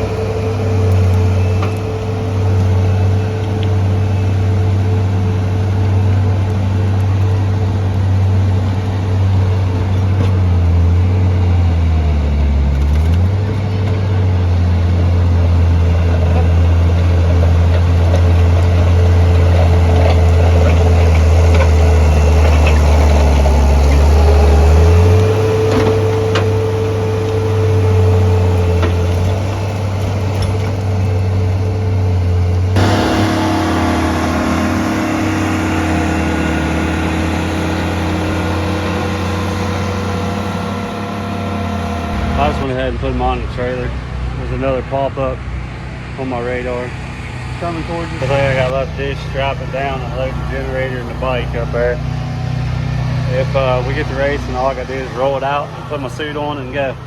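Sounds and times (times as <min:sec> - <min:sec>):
engine running at low speed: 0:00.0 - 0:57.0.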